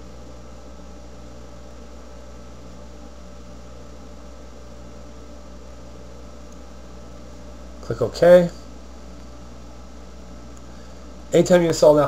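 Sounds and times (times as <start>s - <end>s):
constant hiss: 0.0s - 12.0s
low electrical hum: 0.0s - 12.0s.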